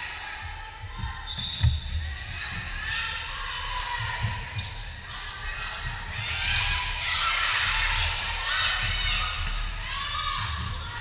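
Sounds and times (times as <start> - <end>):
voices in echoing gym: 0.0 - 11.0.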